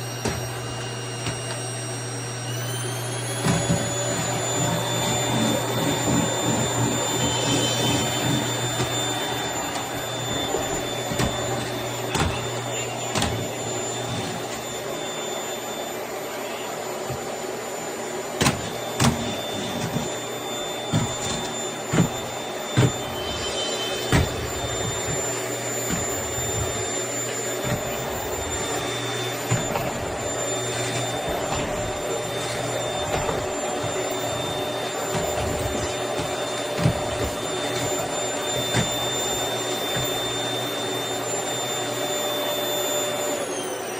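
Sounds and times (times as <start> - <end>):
vacuum cleaner running: 0.0 - 43.9.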